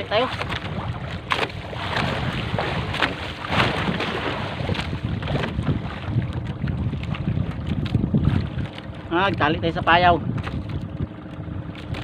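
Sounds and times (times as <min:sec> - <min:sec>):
water noise: 0:00.0 - 0:12.0
wind rumbling on microphone: 0:00.0 - 0:12.0.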